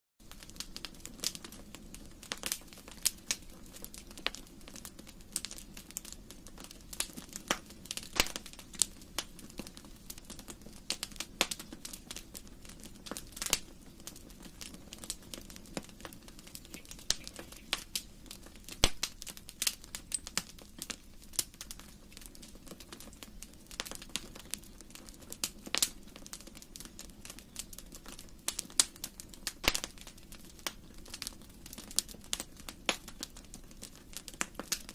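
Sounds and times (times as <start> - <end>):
fire crackling and popping: 0.2 - 34.9
rush of flames: 0.2 - 34.9.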